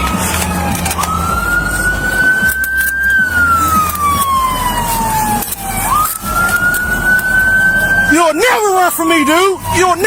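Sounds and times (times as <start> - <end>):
police siren wailing: 0.0 - 10.0.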